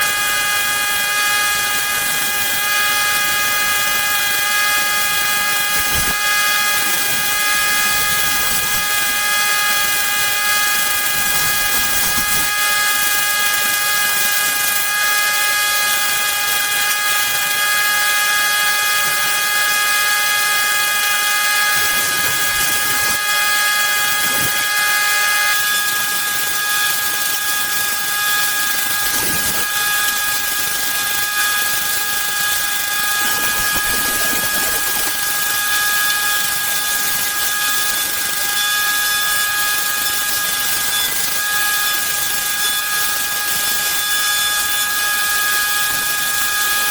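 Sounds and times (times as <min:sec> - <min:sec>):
power tool motor whining: 0:00.0 - 0:46.9.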